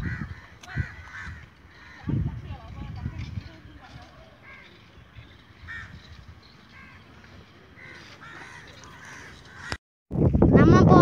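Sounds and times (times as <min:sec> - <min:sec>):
birds giving harsh calls: 0:00.0 - 0:02.4, 0:03.0 - 0:09.8.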